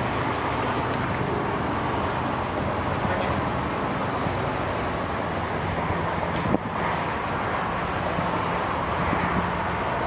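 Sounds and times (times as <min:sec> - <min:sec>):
distant diesel locomotive hum: 0:00.0 - 0:10.0
road traffic rumble: 0:00.0 - 0:10.0.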